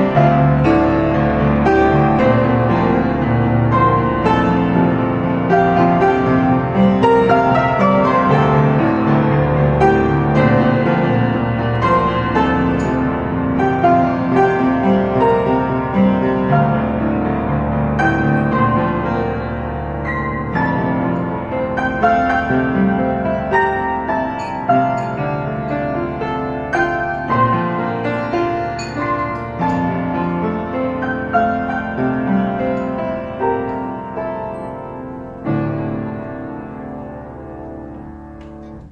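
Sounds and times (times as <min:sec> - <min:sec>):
slow piano chords and melody: 0:00.0 - 0:38.9.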